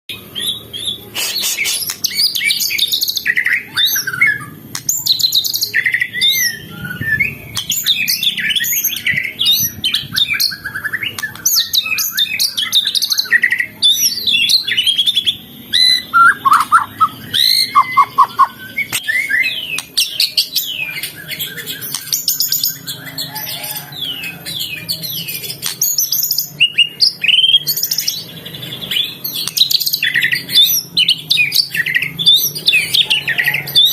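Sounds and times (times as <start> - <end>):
bird singing whistles and chirps: 0.3 - 33.9.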